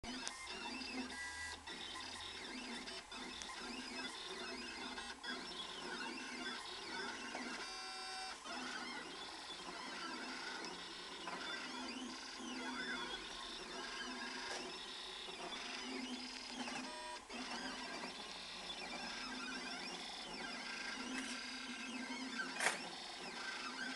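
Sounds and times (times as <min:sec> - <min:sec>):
stepper motors whining: 0:00.2 - 0:23.9.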